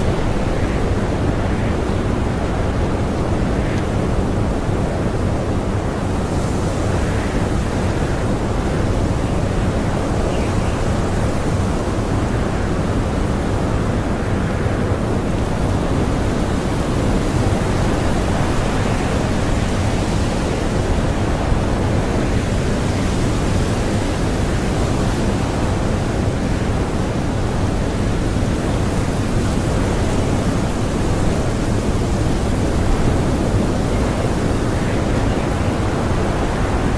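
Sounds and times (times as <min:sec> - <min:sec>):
blizzard wind blowing: 0:00.0 - 0:36.9.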